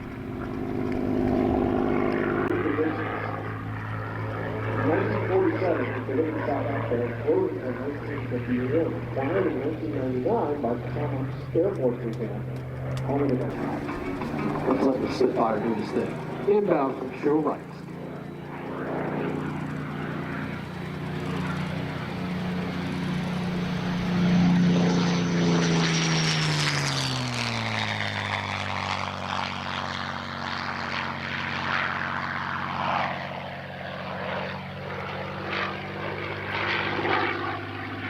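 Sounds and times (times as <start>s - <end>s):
propeller plane engine flyby: 0.0s - 38.0s.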